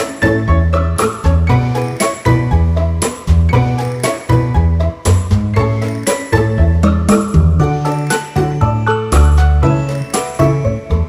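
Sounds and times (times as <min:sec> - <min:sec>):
upbeat music with bouncy bass: 0:00.0 - 0:11.0.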